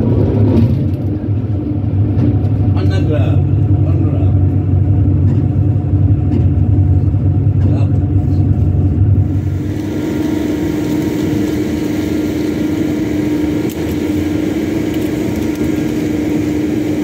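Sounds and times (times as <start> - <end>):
engine deep rumble: 0.0 - 17.0
engine idling hum: 0.0 - 17.0.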